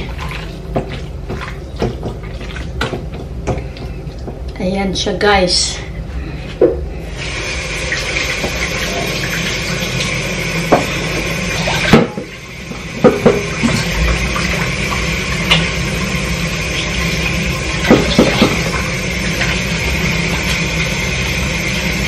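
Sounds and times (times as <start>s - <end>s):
tap water running: 0.0s - 4.7s, 6.6s - 22.0s.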